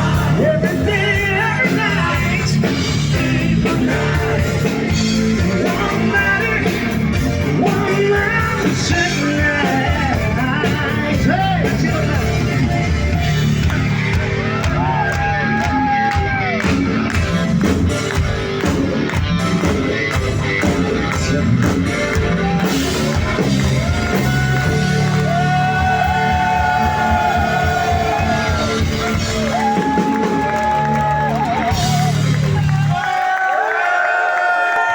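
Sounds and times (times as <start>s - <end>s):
lead melody with bends: 0.0s - 32.9s
live rock band playing: 0.0s - 33.0s
crowd noise: 0.0s - 34.9s.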